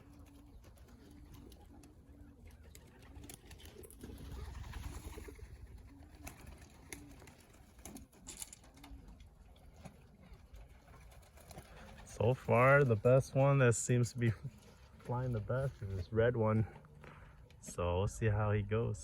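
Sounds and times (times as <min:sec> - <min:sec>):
pigeons cooing: 0:00.0 - 0:17.5.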